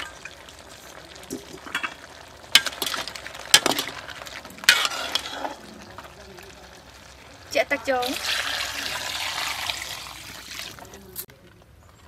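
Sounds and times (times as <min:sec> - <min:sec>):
hot broth hissing: 0:00.0 - 0:11.0.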